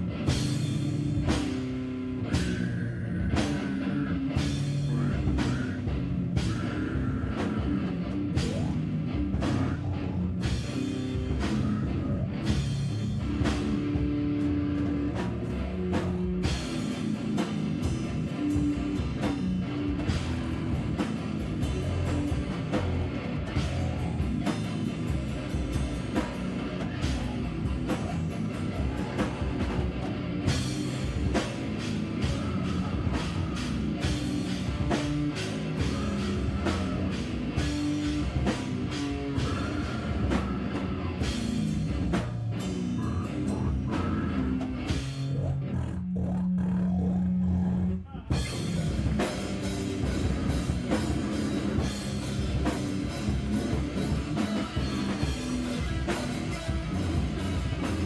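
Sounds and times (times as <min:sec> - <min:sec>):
live band playing heavy rock: 0:00.0 - 0:45.7, 0:48.3 - 0:58.0.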